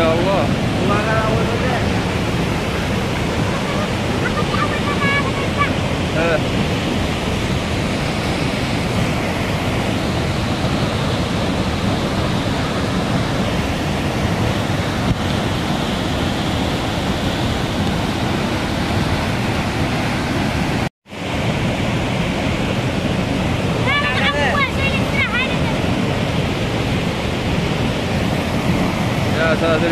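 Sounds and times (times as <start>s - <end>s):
floodwater rushing over waterfall: 0.0s - 29.9s.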